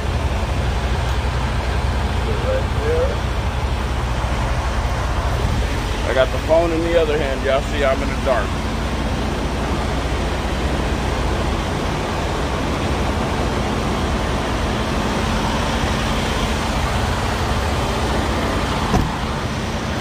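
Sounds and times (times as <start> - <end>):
diesel truck engines idling: 0.0 - 20.0.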